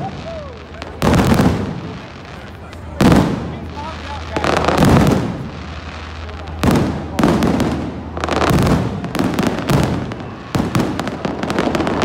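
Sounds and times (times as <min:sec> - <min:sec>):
fireworks booming: 0:00.0 - 0:12.0
fireworks crackling: 0:00.0 - 0:12.0.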